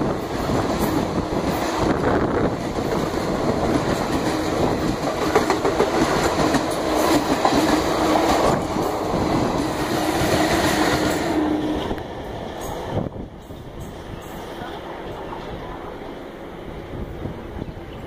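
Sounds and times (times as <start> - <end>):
train coaches rumbling past: 0.0 - 18.0.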